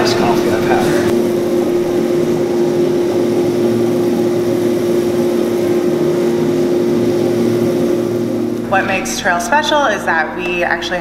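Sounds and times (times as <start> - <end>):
coffee roaster machine hum: 0.0 - 11.0.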